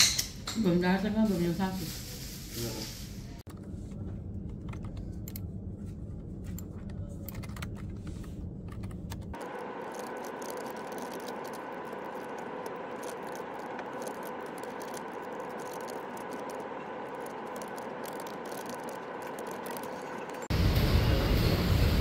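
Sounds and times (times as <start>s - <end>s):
steady hum: 3.3s - 22.0s.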